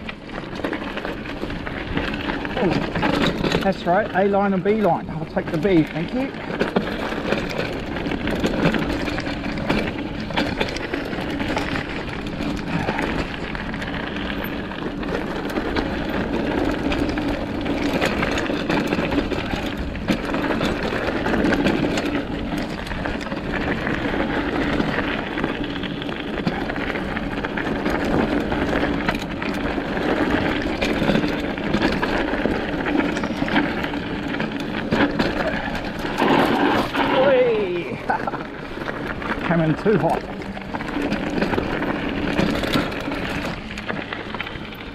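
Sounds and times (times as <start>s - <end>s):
bike rattles and knocks: 0.0s - 44.9s
bike tyre rushing on dirt: 0.0s - 44.9s.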